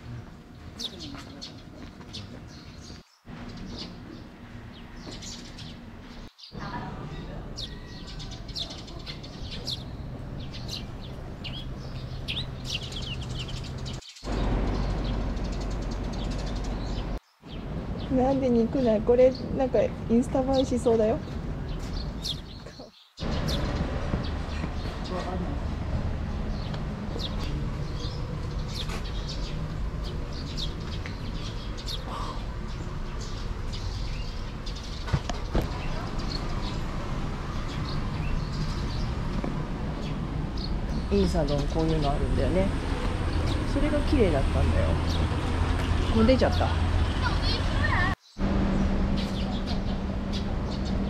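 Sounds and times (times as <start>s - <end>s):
small birds chirping: 0.0s - 51.0s
street noise rumble: 0.0s - 51.0s.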